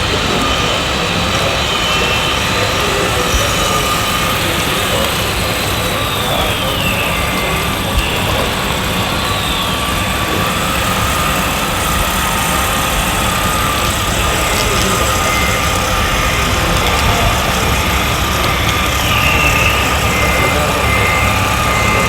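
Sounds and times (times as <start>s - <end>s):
diesel engine sound: 0.0s - 22.0s
high whines falling in pitch: 0.0s - 22.0s.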